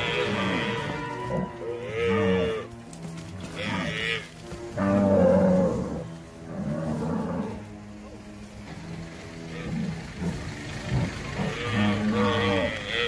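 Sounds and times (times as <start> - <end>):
buffalo bellowing: 0.0 - 8.2, 9.0 - 13.0.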